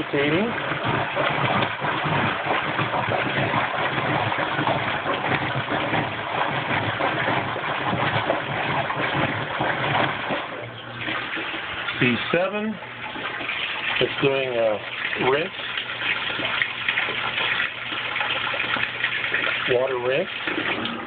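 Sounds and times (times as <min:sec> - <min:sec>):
washing machine motor running: 0:00.0 - 0:21.0
water churning and sloshing: 0:00.0 - 0:21.0.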